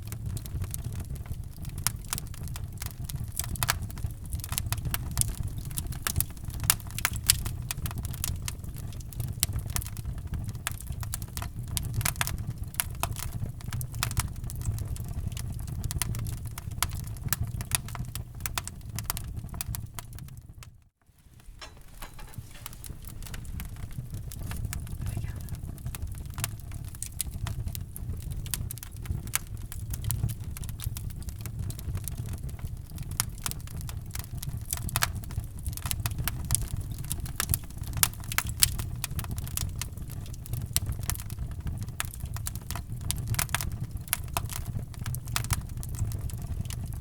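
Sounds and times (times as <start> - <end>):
low rumble of flames: 0.0 - 47.0
wood fire crackling and popping: 0.0 - 47.0.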